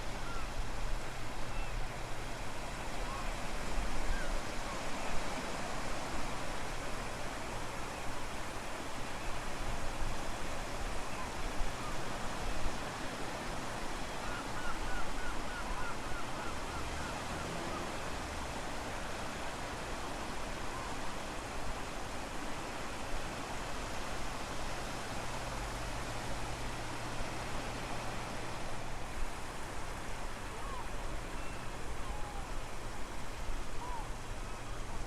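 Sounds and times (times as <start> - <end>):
ocean surf: 0.0 - 35.0.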